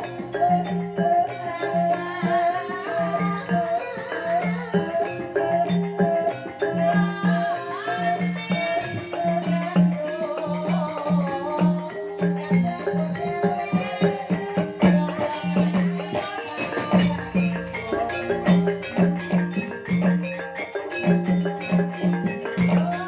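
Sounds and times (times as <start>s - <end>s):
pitched metallic gamelan notes: 0.0s - 23.0s.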